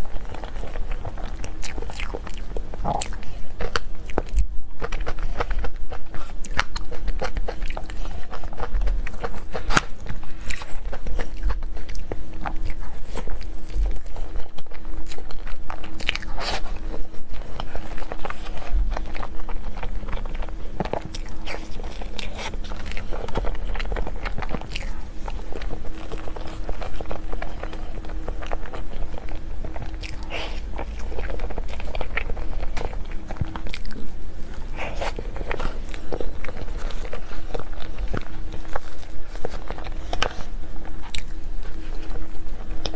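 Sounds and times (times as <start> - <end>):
chewing and biting cake: 0.0 - 42.9
faint steady hum: 0.0 - 42.9.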